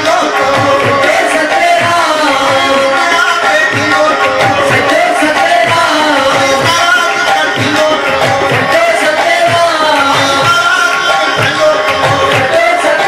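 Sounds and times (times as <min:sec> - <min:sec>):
hand drum beat: 0:00.0 - 0:13.0
men chanting into microphones: 0:00.0 - 0:13.0.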